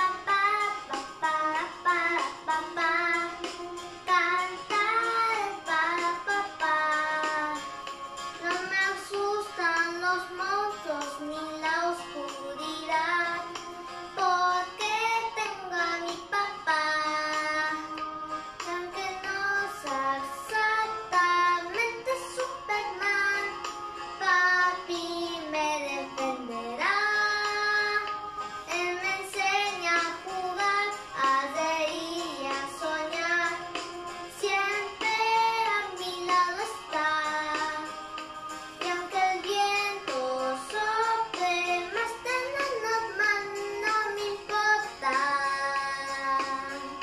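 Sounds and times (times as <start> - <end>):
backing music track: 0.0 - 47.0
girl singing: 0.0 - 47.0.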